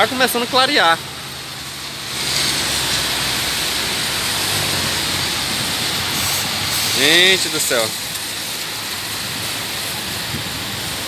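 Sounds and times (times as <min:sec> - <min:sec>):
low engine hum: 0:00.0 - 0:11.0
rain rushing: 0:00.0 - 0:11.0
traffic on wet road: 0:00.0 - 0:11.0.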